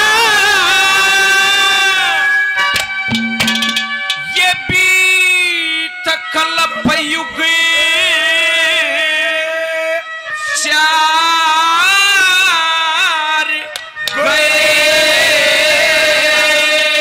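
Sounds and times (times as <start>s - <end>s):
harmonium: 0.0s - 17.0s.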